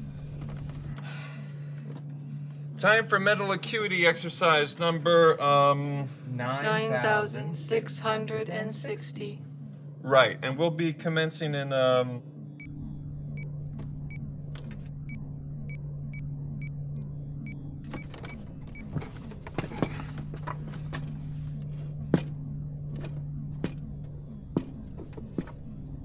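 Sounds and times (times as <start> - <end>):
low electronic hum: 0.0 - 26.0.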